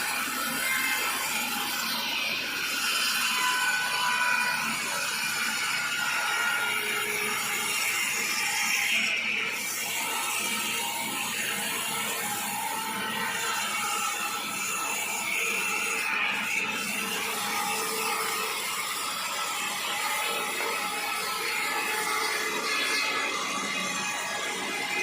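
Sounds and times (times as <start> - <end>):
saw cutting through log: 0.0 - 25.0.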